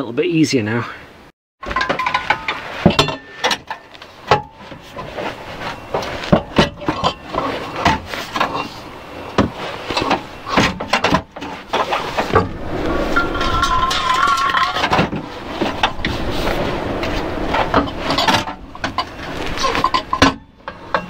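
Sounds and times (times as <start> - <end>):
metal exhaust knocks and scrapes: 1.6 - 21.0.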